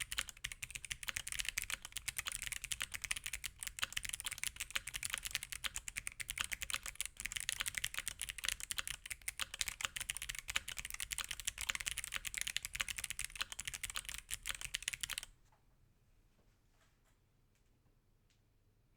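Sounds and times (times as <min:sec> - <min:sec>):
clicky mechanical keyboard typing: 0:00.0 - 0:15.3.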